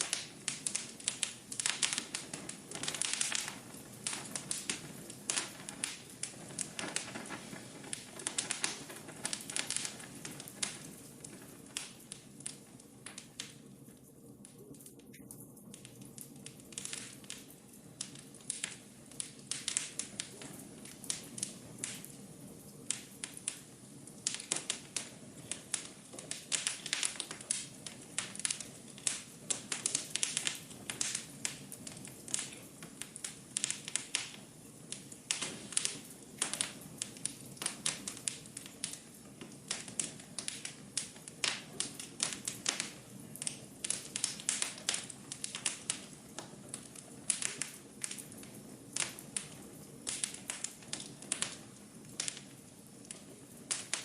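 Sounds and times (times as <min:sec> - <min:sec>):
soft steady hiss: 0:00.0 - 0:54.0
wood fire crackling and popping: 0:00.0 - 0:54.0.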